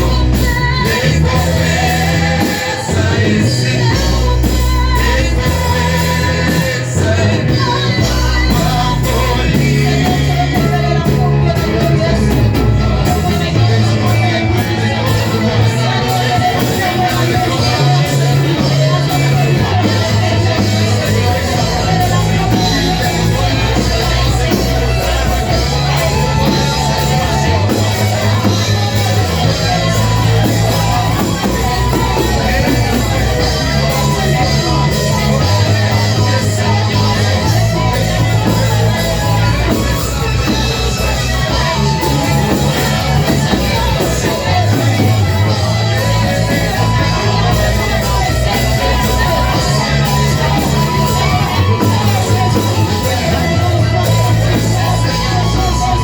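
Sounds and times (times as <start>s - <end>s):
live worship band playing: 0.0s - 56.0s
voices singing: 0.0s - 56.0s.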